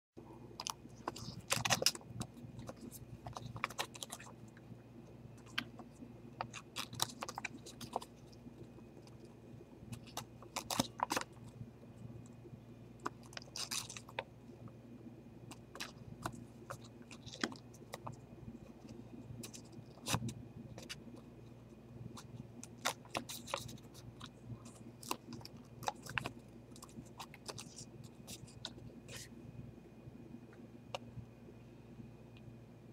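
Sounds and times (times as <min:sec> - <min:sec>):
steady low hum: 0:00.2 - 0:32.9.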